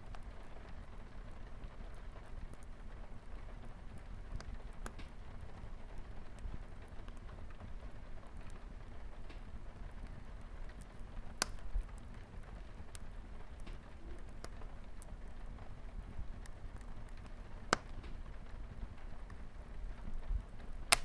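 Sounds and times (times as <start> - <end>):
light rain on a window: 0.0 - 21.0
wood fire crackling: 0.0 - 21.0.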